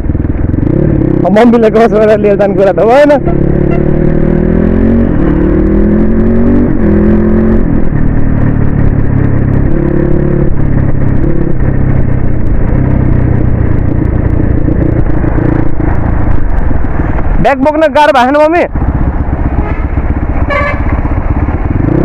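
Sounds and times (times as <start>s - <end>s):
motorcycle engine accelerating: 0.0s - 22.0s
wind rushing over microphone: 2.1s - 22.0s.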